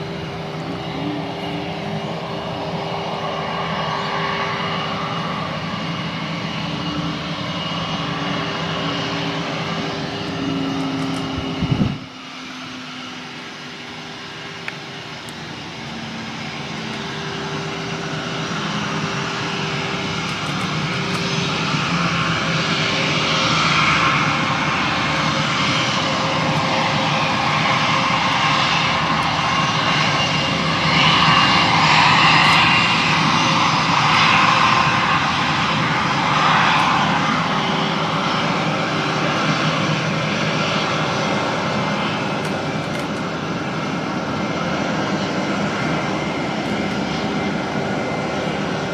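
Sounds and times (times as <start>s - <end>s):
airliner engines roaring: 0.0s - 48.9s.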